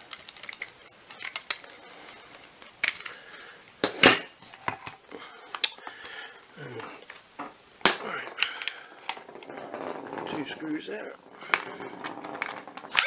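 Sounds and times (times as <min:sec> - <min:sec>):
plastic parts clicking and knocking: 0:00.0 - 0:06.2, 0:07.0 - 0:13.0.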